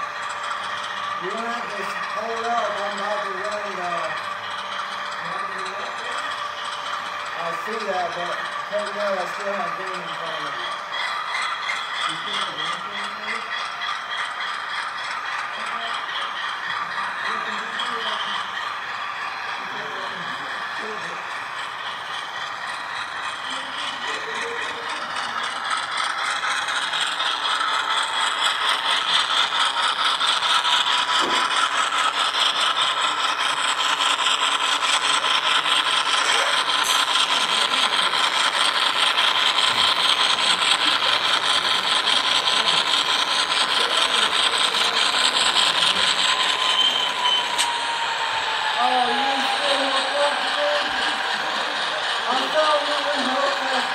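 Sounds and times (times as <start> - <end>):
model train wheels rattling: 0.0 - 53.9
thin steady whine: 0.0 - 53.9.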